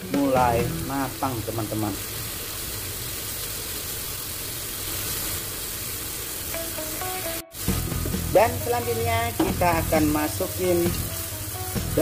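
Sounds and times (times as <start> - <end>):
beef sizzling in a wok: 0.0 - 12.0.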